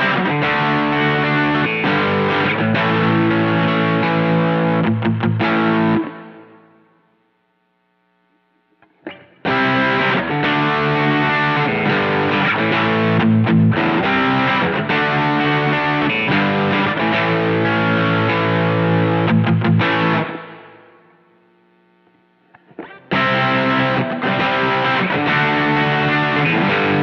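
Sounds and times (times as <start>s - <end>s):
overdriven electric guitar: 0.0s - 27.0s.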